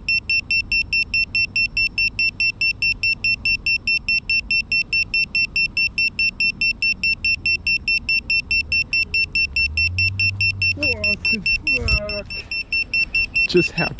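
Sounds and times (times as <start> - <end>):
high-pitched buzzer beeping: 0.0 - 13.9.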